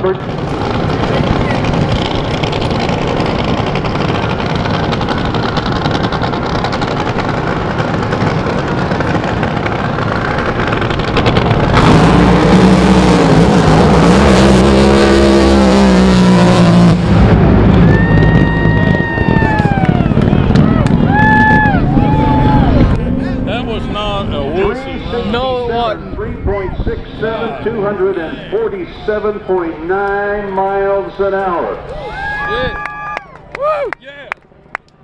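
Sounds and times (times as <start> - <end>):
drag boat engine roaring: 0.0 - 35.0.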